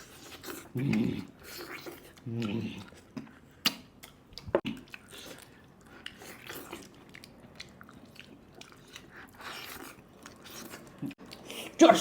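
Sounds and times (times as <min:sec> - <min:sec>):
person chewing meat: 0:00.0 - 0:11.8.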